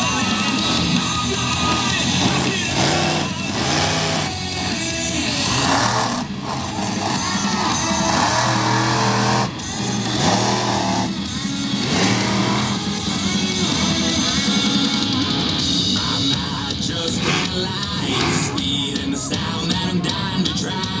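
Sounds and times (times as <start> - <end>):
monster truck engine revving: 0.0 - 19.6
rock music: 0.0 - 21.0.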